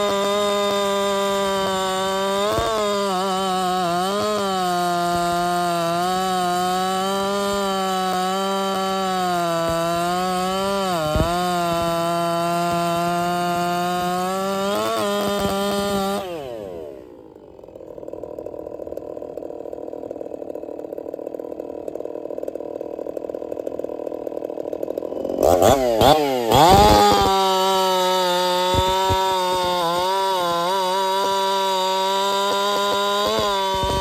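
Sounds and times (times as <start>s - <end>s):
chainsaw cutting log: 0.0s - 34.0s.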